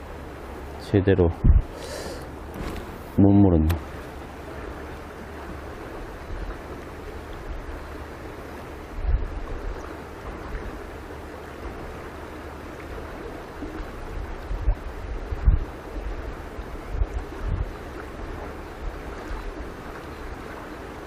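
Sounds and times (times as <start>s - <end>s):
stream water running over rocks: 0.0s - 21.0s
wind buffeting microphone: 1.2s - 12.1s, 12.9s - 20.8s.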